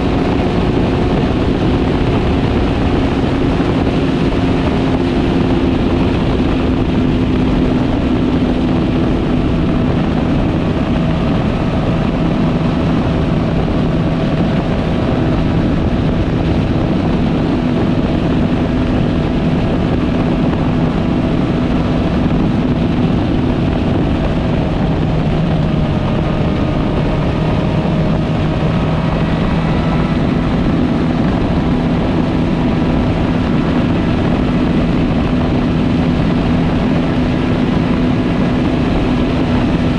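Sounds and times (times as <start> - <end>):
motorcycle engine cruising: 0.0 - 39.9
wind and road rush: 0.0 - 39.9.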